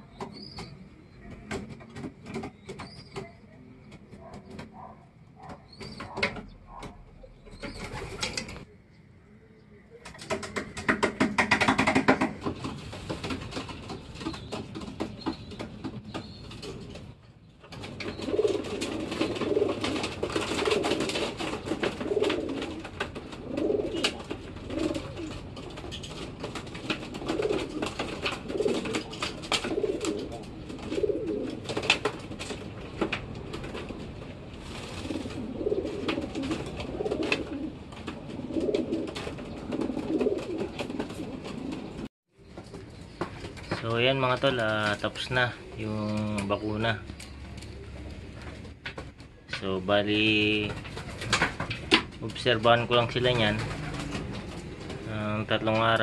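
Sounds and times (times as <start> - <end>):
birds scuffling and clicking: 0.0 - 8.7, 10.0 - 56.0
pigeons cooing: 0.0 - 56.0.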